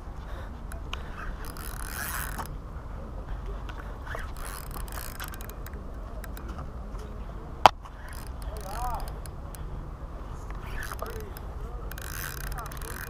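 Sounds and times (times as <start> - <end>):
steady low rumble: 0.0 - 12.9
fishing reel clicking: 0.2 - 2.7, 3.7 - 6.7, 7.9 - 13.0.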